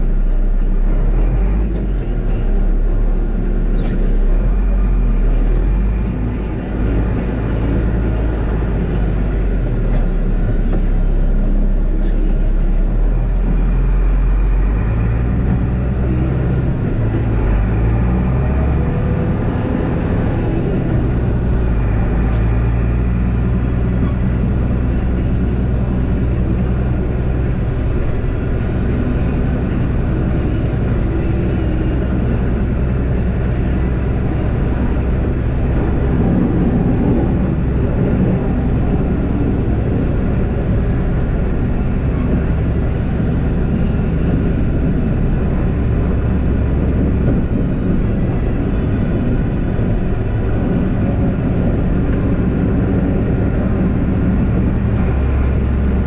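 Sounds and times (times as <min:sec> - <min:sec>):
diesel engine under load: 0:00.0 - 0:56.0
snowplow rushing through snow: 0:00.0 - 0:56.0.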